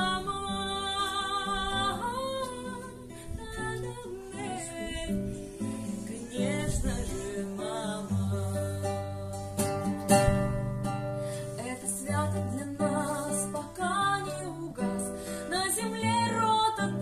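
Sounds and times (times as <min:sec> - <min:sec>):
woman singing: 0:00.0 - 0:10.1, 0:11.3 - 0:17.0.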